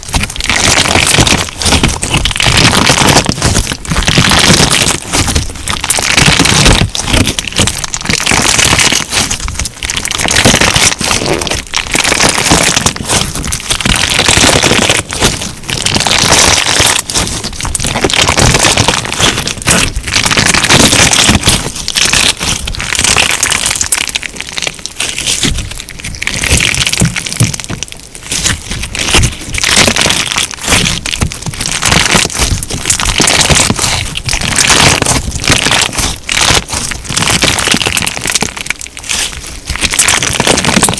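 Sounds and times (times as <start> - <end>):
slime crackling and popping: 0.0 - 40.9.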